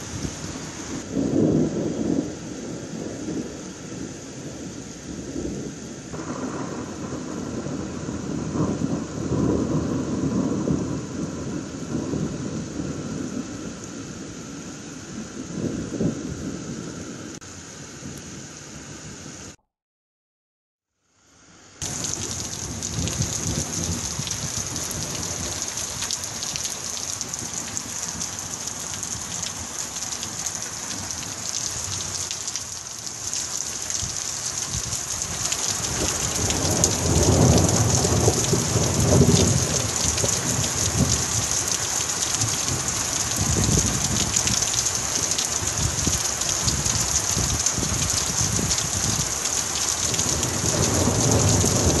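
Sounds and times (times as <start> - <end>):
thunder rumbling: 0.0 - 17.4, 21.8 - 32.4, 33.1 - 52.0
heavy rain downpour hissing: 0.0 - 19.6, 21.2 - 52.0.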